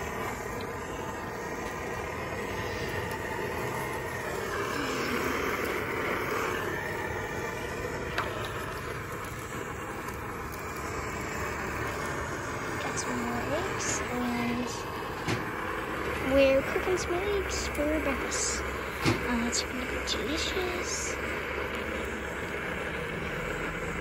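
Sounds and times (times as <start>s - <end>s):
stove burner rushing: 0.0s - 24.0s.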